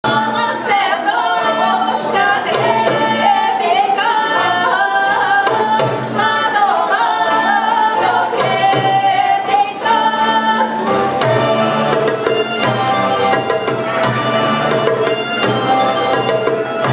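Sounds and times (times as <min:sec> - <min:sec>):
instrumental accompaniment: 0:00.0 - 0:16.9.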